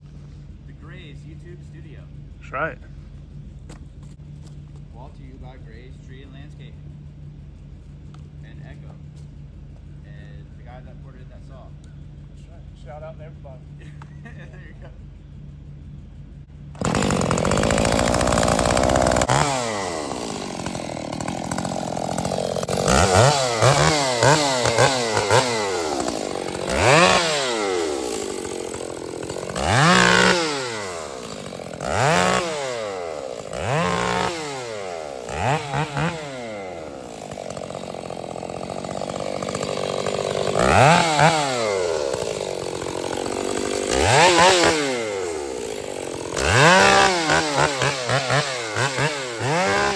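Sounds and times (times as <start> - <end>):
chainsaw revving: 0.0 - 49.9.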